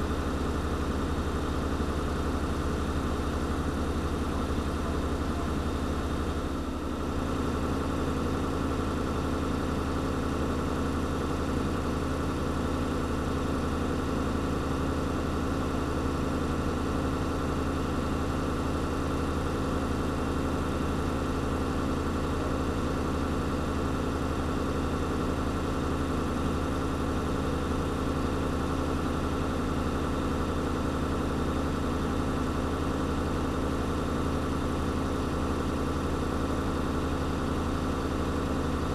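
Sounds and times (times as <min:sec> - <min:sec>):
fire engine running: 0:00.0 - 0:38.9.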